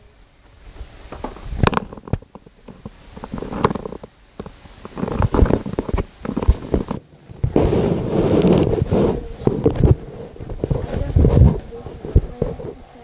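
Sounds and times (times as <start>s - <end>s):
scraping and rustling: 0.7s - 13.0s.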